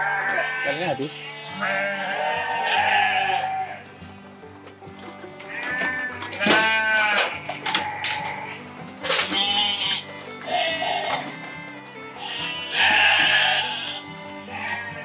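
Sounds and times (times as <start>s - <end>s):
background music low notes: 0.0s - 15.0s
sheep bleating: 0.0s - 15.0s.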